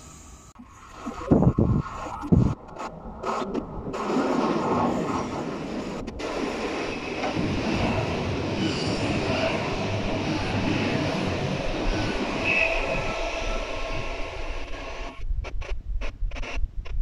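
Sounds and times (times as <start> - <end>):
electric train running on rails: 0.0 - 15.7
wind gusts on microphone: 0.9 - 17.0.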